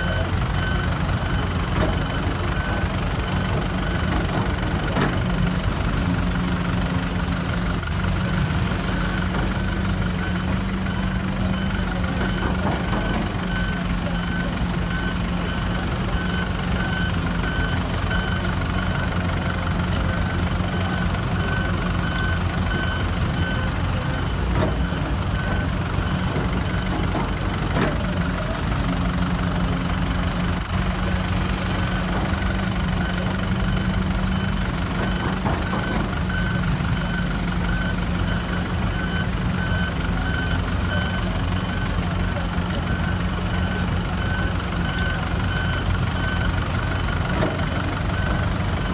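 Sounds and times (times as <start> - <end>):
diesel construction machinery running: 0.0 - 48.9
reversing alarm beeping: 0.0 - 48.9.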